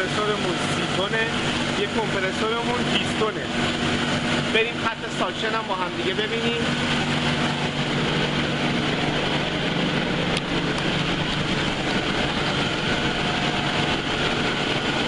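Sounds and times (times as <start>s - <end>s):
compressor machinery drone: 0.0s - 15.0s.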